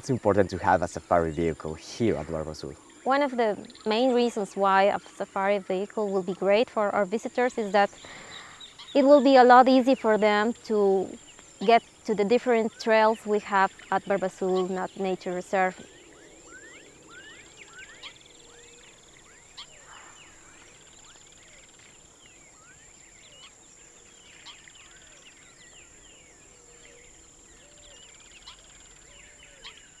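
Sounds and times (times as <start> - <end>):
birds chirping: 0.0 - 30.0
insect drone: 0.0 - 30.0.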